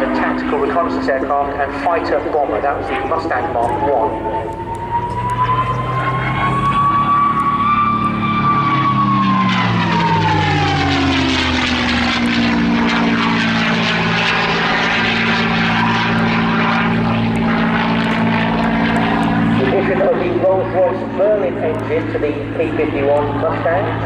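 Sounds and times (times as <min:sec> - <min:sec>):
propeller aircraft engine passing: 0:00.0 - 0:24.0.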